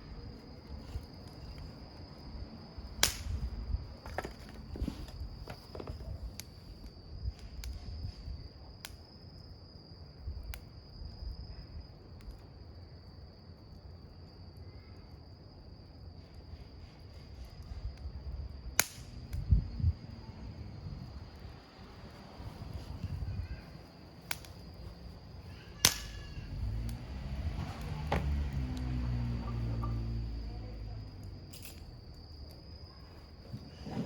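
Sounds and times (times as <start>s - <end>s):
campfire flame rumble: 0.0s - 34.0s
fire crackles and pops: 0.1s - 14.6s, 16.1s - 33.8s.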